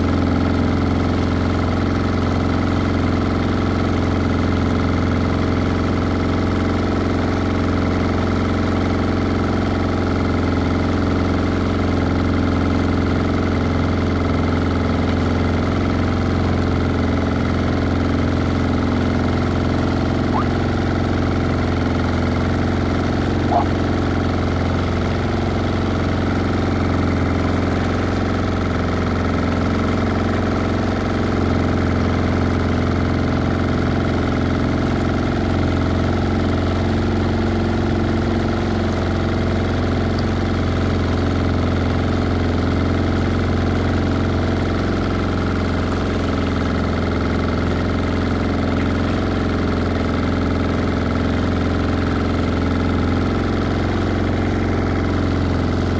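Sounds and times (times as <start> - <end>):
boat engine humming: 0.0 - 55.9.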